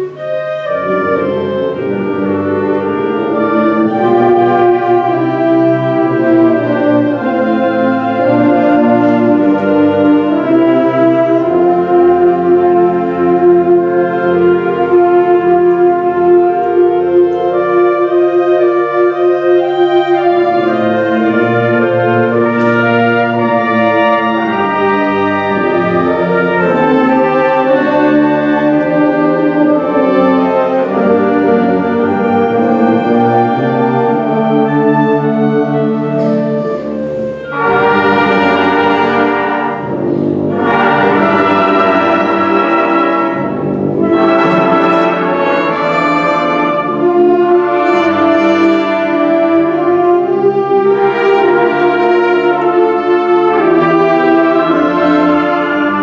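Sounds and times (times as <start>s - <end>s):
symphonic band playing: 0.0s - 56.0s.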